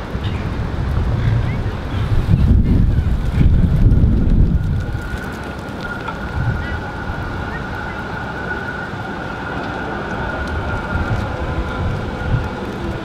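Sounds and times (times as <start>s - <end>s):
traffic hiss: 0.0s - 13.0s
wind rumble on microphone: 0.0s - 13.0s
tram wheels squealing on rails: 1.2s - 13.0s.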